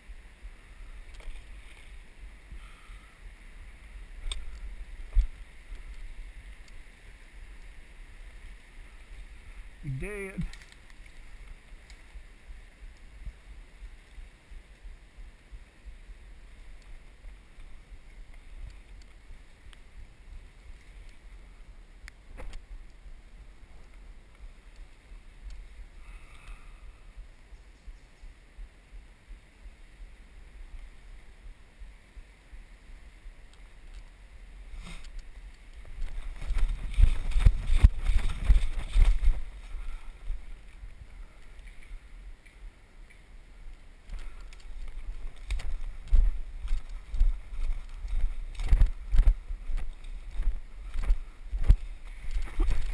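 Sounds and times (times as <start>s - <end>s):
rustling through dry undergrowth: 0.0s - 52.9s
wind and handling rumble: 0.0s - 52.9s.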